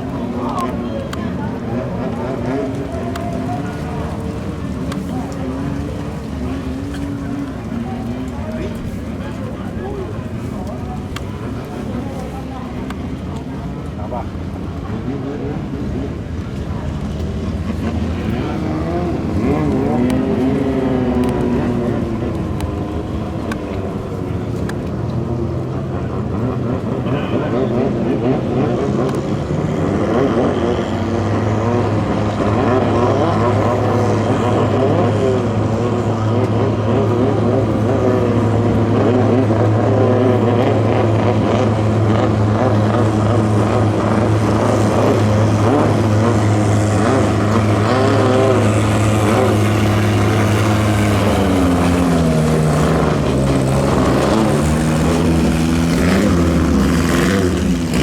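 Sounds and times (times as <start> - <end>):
racing boat engine running hard: 0.0 - 58.0.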